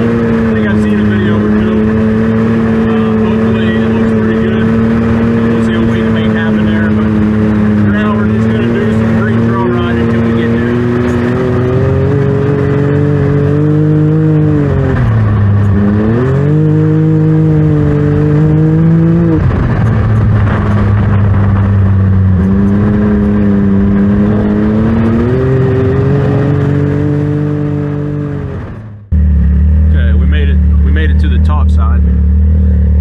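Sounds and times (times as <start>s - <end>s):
utility vehicle engine revving: 0.0s - 33.0s.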